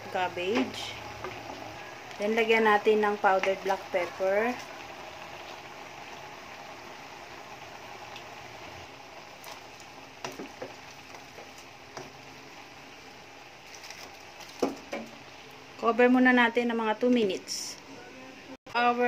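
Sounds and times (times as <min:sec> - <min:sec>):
vegetables simmering with a hiss: 0:00.0 - 0:15.8.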